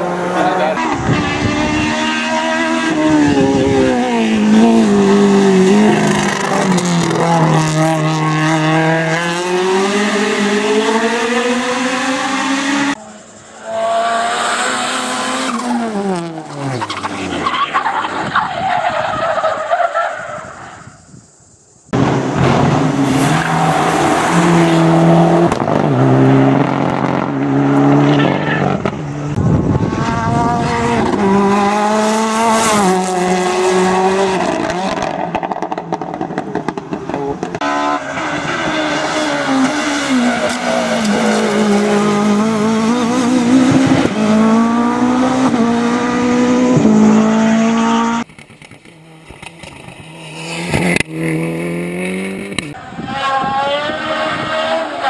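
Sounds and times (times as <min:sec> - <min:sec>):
rally car engines revving: 0:00.0 - 0:19.7, 0:21.9 - 0:55.0.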